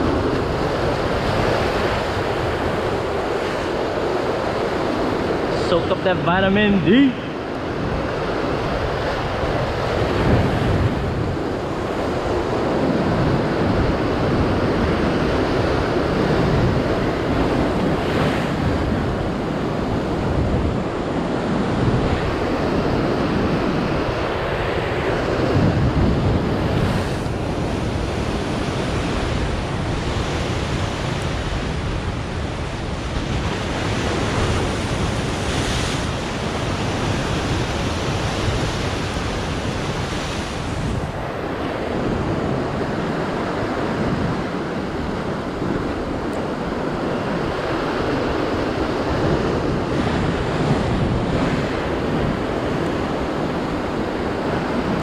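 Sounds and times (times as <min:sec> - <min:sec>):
ocean surf breaking on rocks: 0:00.0 - 0:55.0
wind buffeting microphone: 0:00.0 - 0:55.0.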